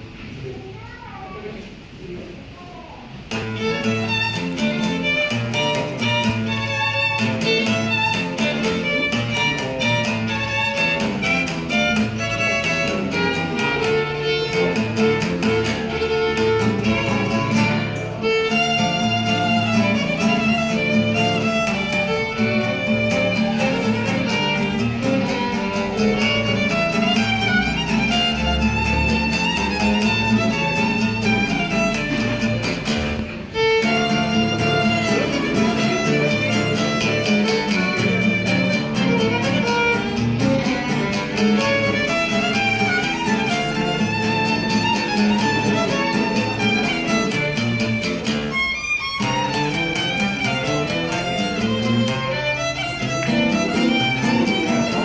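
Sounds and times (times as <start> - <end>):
acoustic guitar accompaniment: 0.0 - 55.0
violin melody: 3.3 - 55.0.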